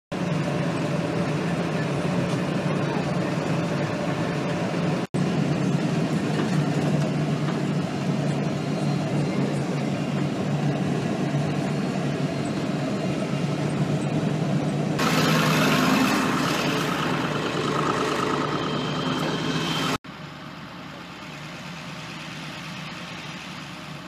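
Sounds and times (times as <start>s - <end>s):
vehicle engine rumbling: 0.1s - 24.0s.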